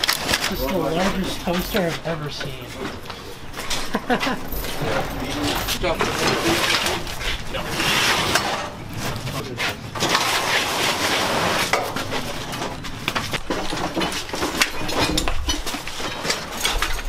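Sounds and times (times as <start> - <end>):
metallic clattering and knocking: 0.0 - 8.9, 9.9 - 17.0
generator dragged over concrete: 0.0 - 17.0.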